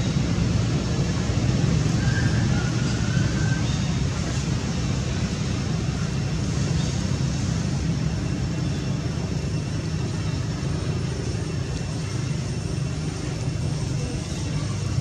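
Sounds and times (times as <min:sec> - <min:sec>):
hiss: 0:00.0 - 0:15.0.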